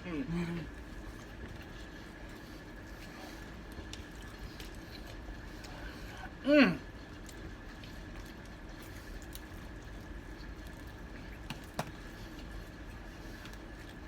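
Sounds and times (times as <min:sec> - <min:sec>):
steady low hum: 0:00.0 - 0:14.0
wet chewing: 0:00.5 - 0:14.0.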